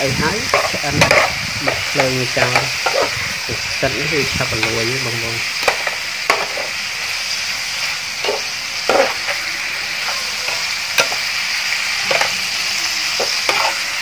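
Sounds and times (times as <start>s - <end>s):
food sizzling in frying pan: 0.0s - 14.0s
spatula scraping and knocking pan: 0.5s - 3.3s, 4.5s - 6.8s, 7.8s - 14.0s.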